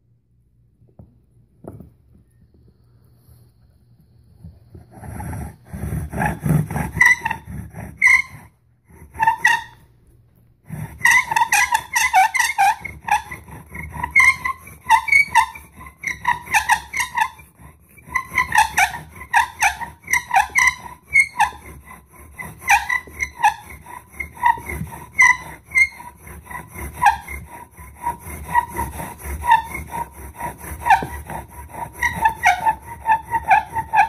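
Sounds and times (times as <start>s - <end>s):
bow drill grinding squeaks: 5.0s - 9.9s, 10.8s - 34.0s.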